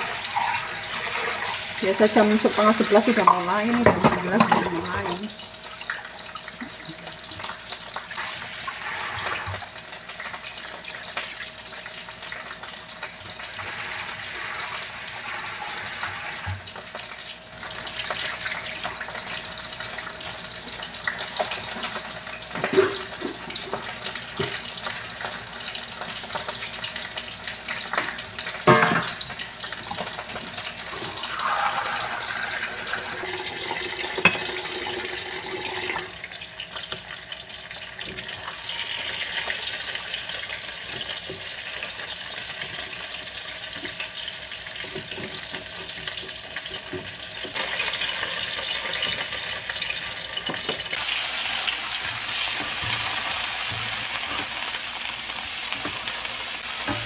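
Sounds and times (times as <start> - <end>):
tap water running: 0.0 - 57.0.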